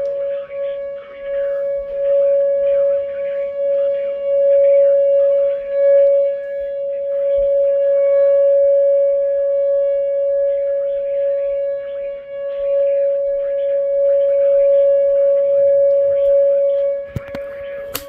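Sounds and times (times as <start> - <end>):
electronic warning siren: 0.0 - 18.0.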